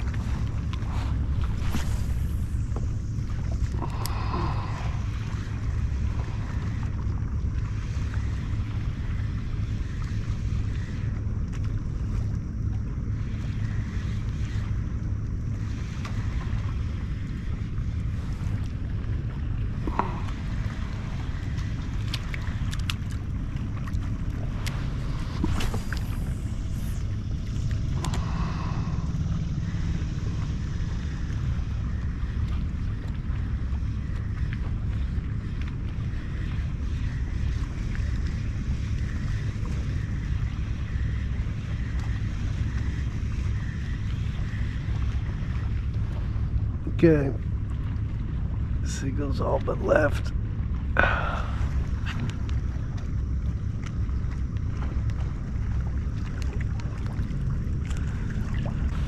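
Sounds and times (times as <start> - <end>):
water washing along kayak hull: 0.0 - 59.0
wind rumbling on microphone: 0.0 - 59.0.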